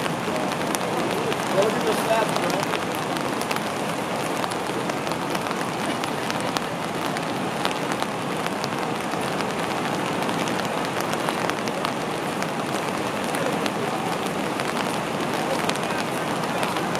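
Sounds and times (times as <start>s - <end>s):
whitewater rapids and waterfalls rushing: 0.0s - 16.9s.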